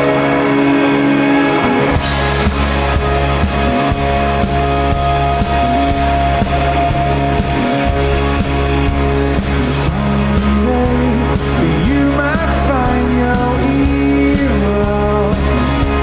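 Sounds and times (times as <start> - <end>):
bass and drums beat: 0.0 - 16.0
electric guitar notes: 0.0 - 16.0.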